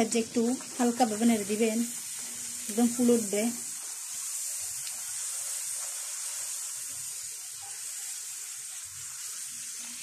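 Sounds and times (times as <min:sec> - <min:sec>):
dough deep-frying in oil: 0:00.0 - 0:10.0.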